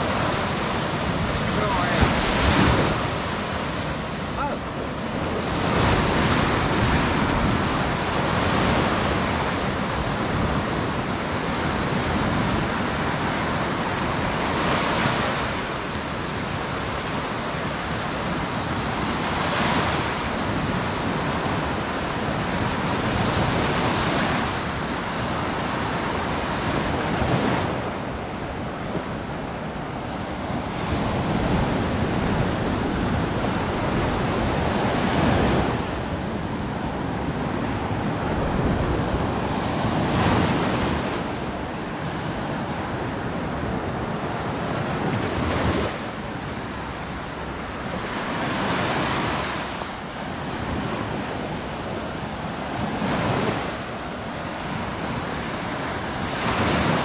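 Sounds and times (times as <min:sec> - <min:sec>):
sea waves washing onto beach: 0:00.0 - 0:57.0.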